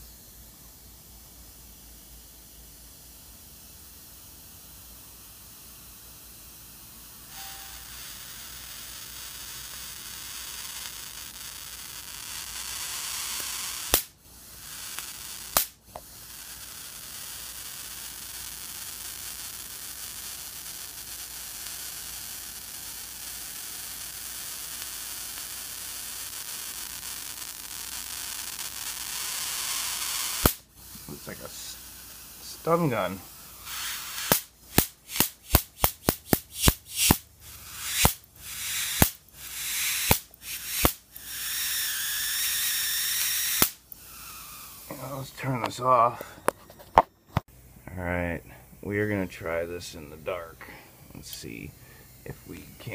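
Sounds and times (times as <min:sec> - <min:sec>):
electrical discharge hiss: 0:00.0 - 0:46.4, 0:48.8 - 0:52.9
sharp electrical cracks: 0:01.5 - 0:46.2, 0:51.2 - 0:52.9.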